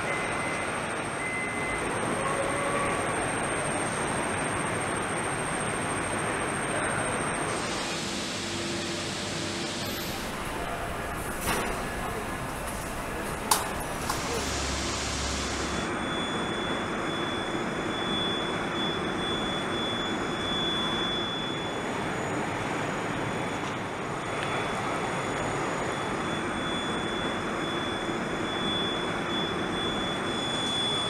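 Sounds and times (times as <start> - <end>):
thin high whine: 0.0 - 23.7, 25.5 - 31.0.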